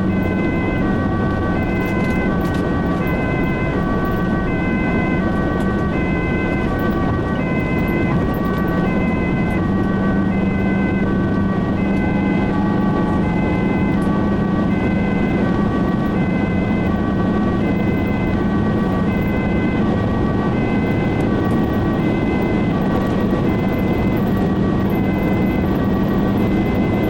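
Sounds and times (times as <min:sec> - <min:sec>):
engine and road noise: 0:00.0 - 0:27.0
two-tone ambulance siren: 0:00.0 - 0:27.0.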